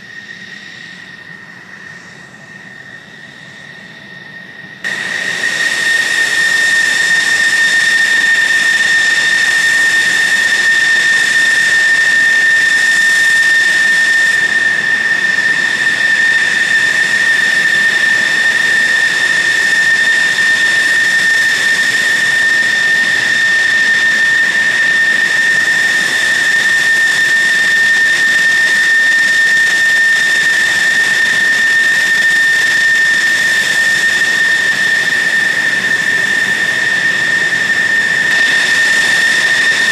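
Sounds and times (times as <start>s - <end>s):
jet engine whining: 0.0s - 39.9s.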